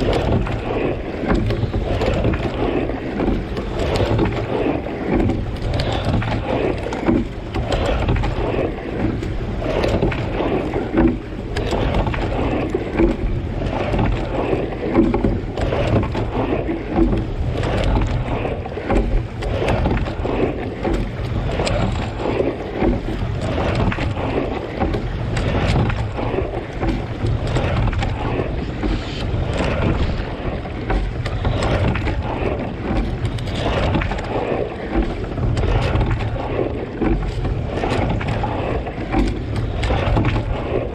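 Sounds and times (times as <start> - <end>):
oar blades in water: 0.0 - 40.9
water rushing and splashing: 0.0 - 40.9
wind on microphone: 0.0 - 40.9.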